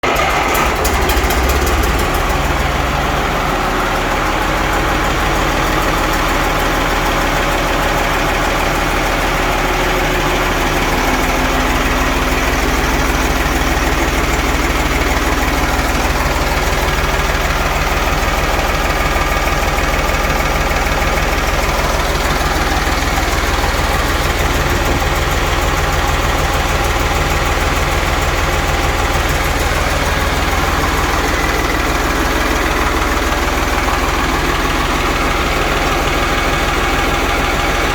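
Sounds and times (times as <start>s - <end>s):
tractor diesel engine idling: 0.0s - 37.9s.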